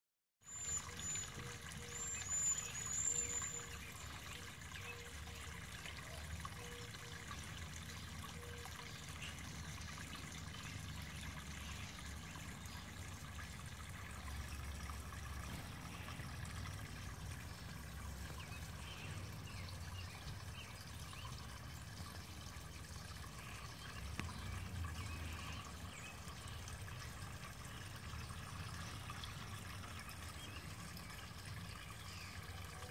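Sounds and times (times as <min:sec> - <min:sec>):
water trickling into pond: 0:00.4 - 0:32.9.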